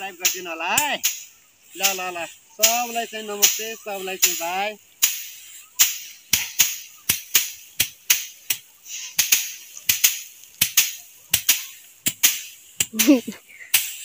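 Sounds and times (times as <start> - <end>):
sticks beating rice stalks: 0.0 - 14.0.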